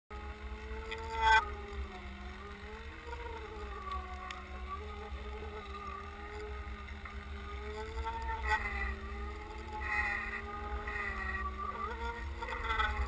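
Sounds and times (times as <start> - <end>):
muffled underwater motor whine: 0.1 - 13.0.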